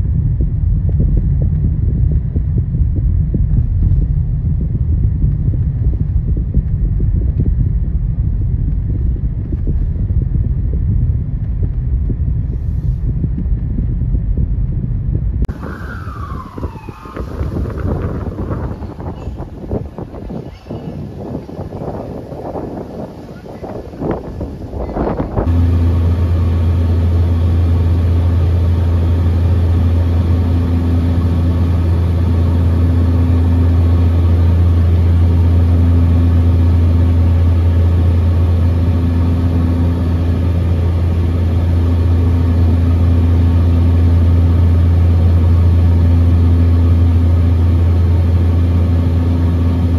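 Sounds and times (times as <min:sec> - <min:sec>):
propeller aircraft engine drone: 0:00.0 - 0:49.9
wind buffeting microphone: 0:00.0 - 0:49.9.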